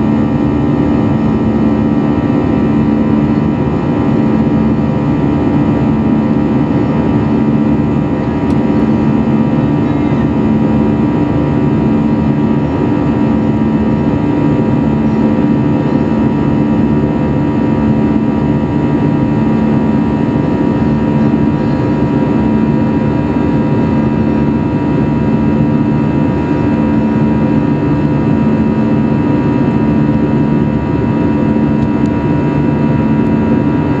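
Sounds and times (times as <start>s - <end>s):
jet engine drone in cabin: 0.0s - 34.0s.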